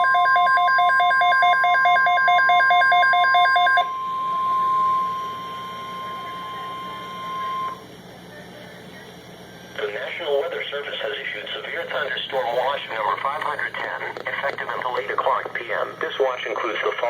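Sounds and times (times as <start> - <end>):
rapid beeping alarm: 0.0 - 7.9, 11.2 - 17.0
steady alarm tone: 0.0 - 8.0, 9.9 - 17.0.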